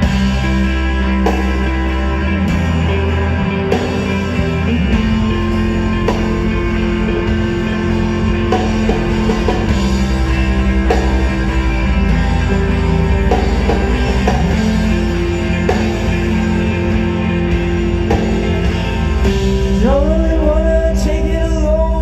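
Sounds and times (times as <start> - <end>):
drum kit: 0.0 - 21.4
bass guitar: 0.0 - 22.0
electric guitar chords: 0.0 - 22.0.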